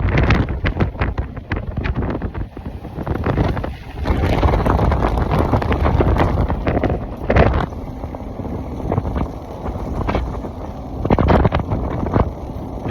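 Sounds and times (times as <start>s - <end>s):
truck rumble: 0.0s - 12.9s
wind buffeting microphone: 0.0s - 12.9s.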